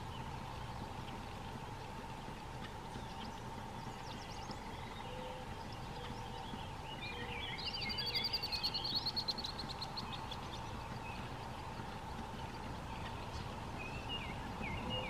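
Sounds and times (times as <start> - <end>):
outdoor background noise: 0.0 - 15.0
songbird singing trill: 0.0 - 15.0.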